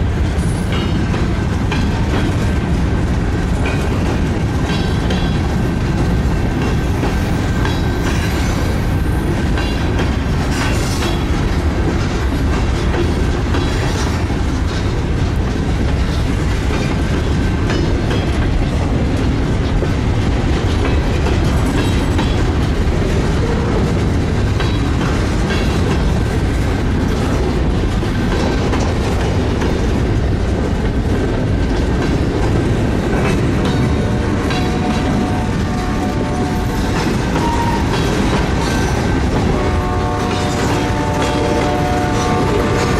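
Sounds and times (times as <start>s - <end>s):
freight train rumbling: 0.0s - 42.9s
wheels clacking over rail joints: 0.0s - 42.9s.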